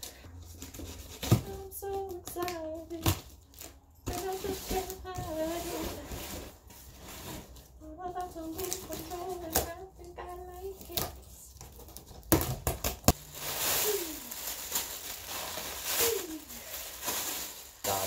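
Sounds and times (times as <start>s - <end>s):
plastic wrap rustling: 0.0s - 18.0s.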